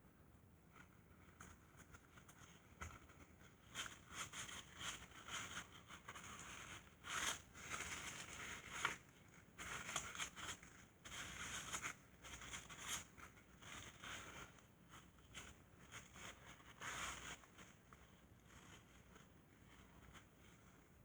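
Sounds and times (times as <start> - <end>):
hands rustling and scraping parts: 0.8 - 21.0.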